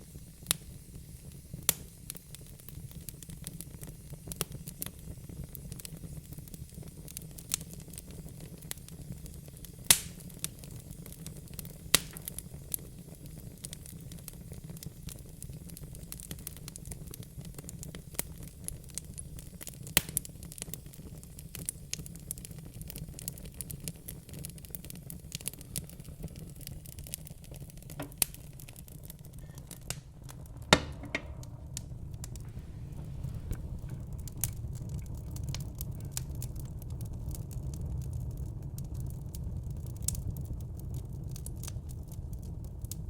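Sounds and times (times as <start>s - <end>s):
low rumble of flames: 0.0s - 43.0s
wood fire crackling: 0.0s - 43.0s.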